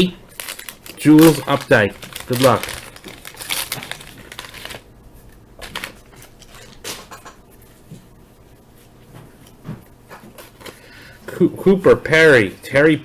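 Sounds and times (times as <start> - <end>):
cardboard cards being handled: 0.0 - 11.0
wax paper wrapper rustling: 0.0 - 12.8.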